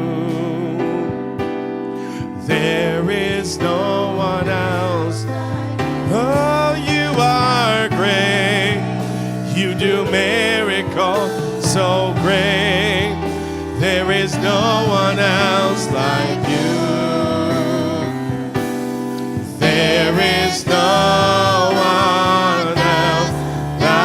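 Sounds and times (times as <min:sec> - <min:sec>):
bass: 0:00.0 - 0:24.0
choir singing worship song: 0:00.0 - 0:24.0
keyboard: 0:00.0 - 0:24.0.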